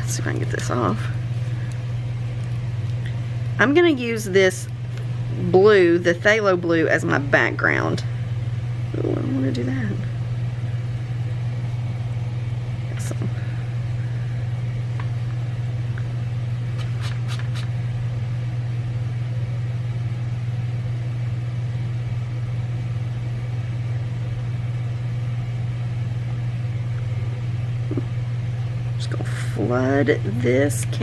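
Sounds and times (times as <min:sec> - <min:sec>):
laundry machines humming: 0:00.0 - 0:31.0.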